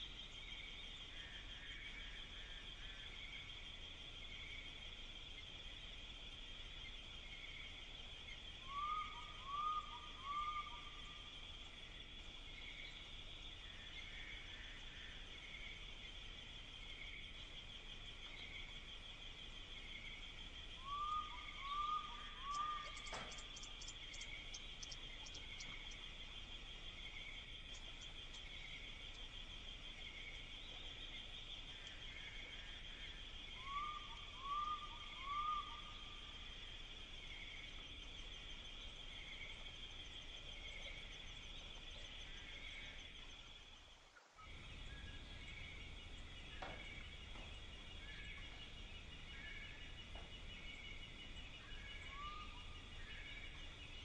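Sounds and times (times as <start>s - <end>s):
faint bird chirp: 0.0s - 54.0s
insects chirring: 0.0s - 54.0s.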